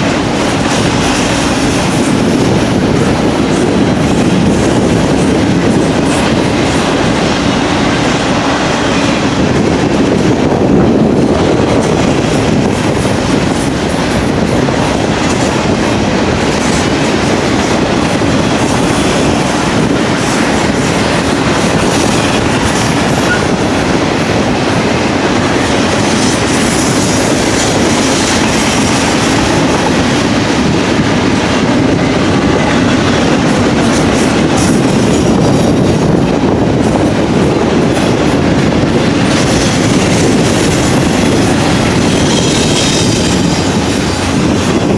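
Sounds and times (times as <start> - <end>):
train cars rumbling past: 0.0 - 44.9.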